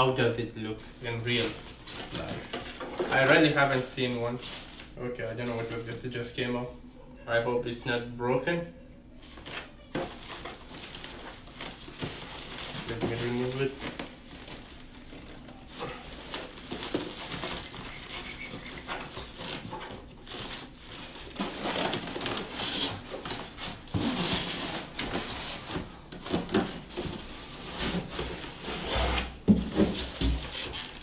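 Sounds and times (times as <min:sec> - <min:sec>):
packaging rustling and scraping: 0:00.8 - 0:06.7, 0:09.2 - 0:31.0.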